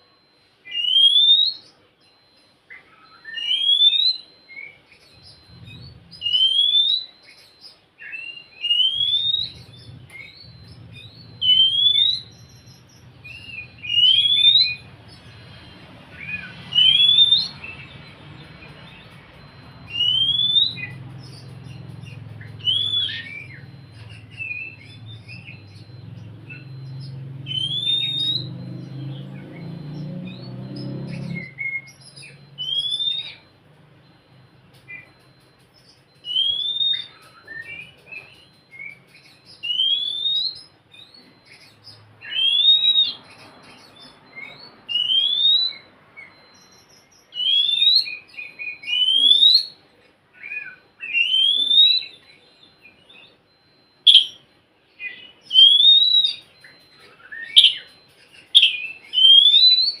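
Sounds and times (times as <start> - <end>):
bird chirps: 0.0 - 60.0
bird singing whistled phrases: 0.7 - 33.5, 36.2 - 49.8, 54.1 - 54.4, 55.0 - 60.0.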